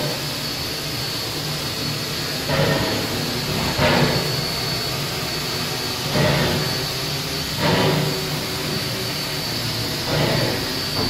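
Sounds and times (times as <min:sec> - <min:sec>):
steam locomotive hissing steam: 0:00.0 - 0:11.0.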